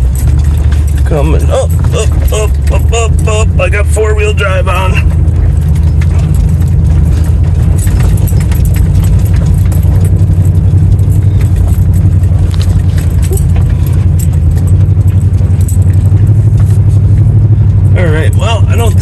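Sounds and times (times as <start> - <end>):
loose items rattling and clinking: 0.0 - 19.0
truck engine low drone: 0.0 - 19.0.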